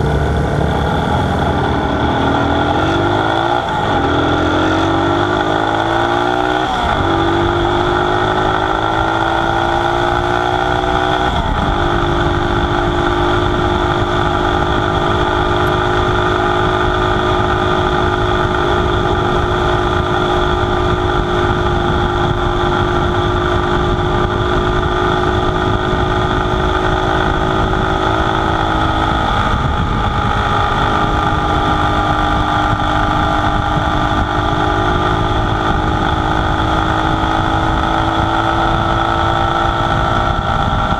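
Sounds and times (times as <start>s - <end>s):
motorcycle engine running: 0.0s - 40.9s
wind on microphone: 0.0s - 40.9s.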